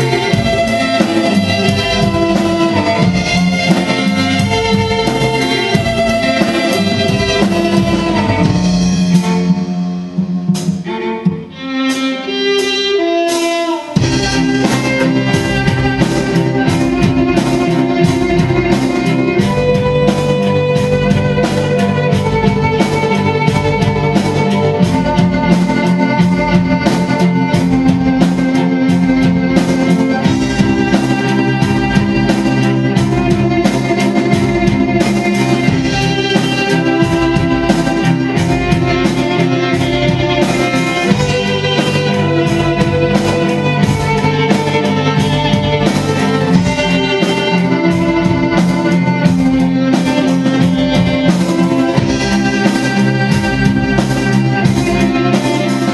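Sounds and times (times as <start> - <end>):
bowed strings playing chords: 0.0 - 55.9
steady drum beat: 0.0 - 55.9.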